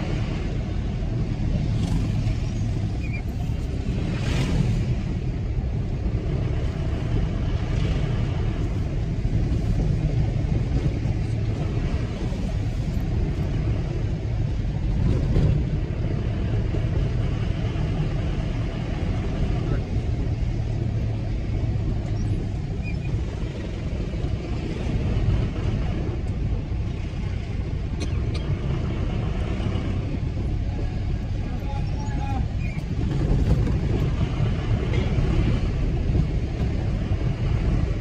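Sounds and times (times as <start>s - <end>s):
car engine and tyre rumble: 0.0s - 38.0s.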